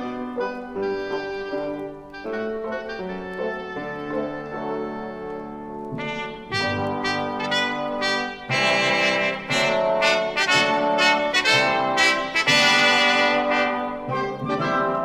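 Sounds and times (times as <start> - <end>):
orchestral brass music: 0.0 - 15.0.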